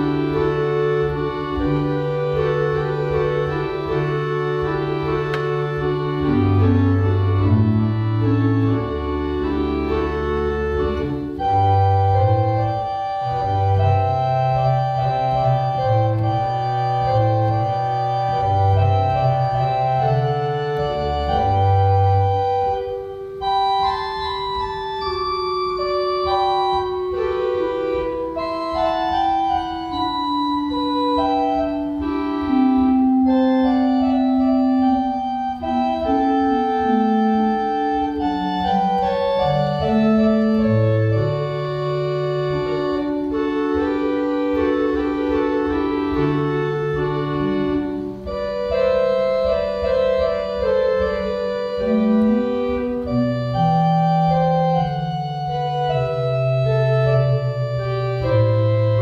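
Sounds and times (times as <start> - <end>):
church organ playing chords: 0.0 - 59.0.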